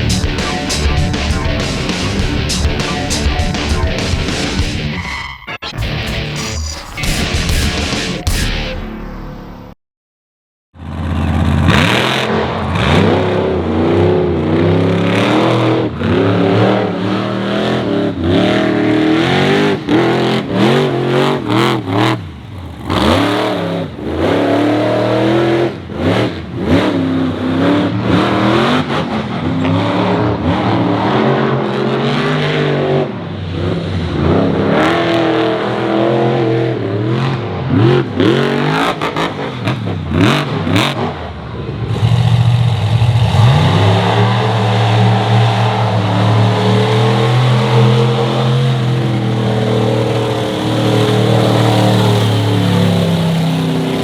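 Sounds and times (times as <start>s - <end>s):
monster truck engine revving: 0.0s - 9.4s, 10.8s - 54.0s.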